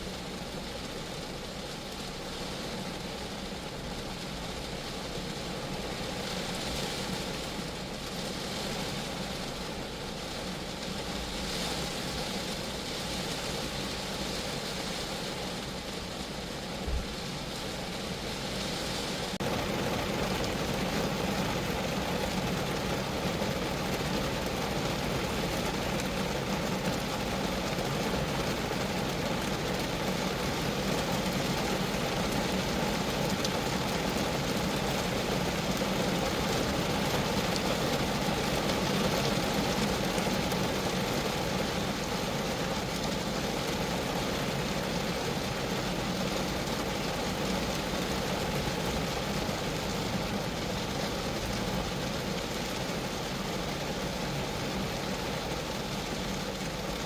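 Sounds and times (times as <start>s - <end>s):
rain on sheet metal: 0.0s - 57.0s.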